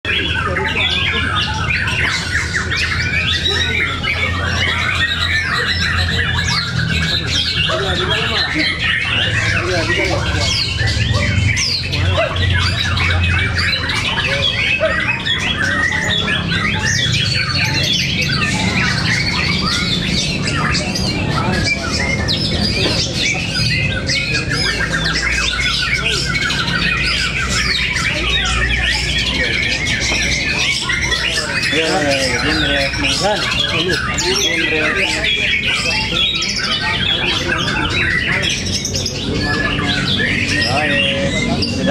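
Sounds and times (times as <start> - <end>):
many birds singing: 0.0 - 41.9
songbirds whistling and chattering: 0.0 - 41.9.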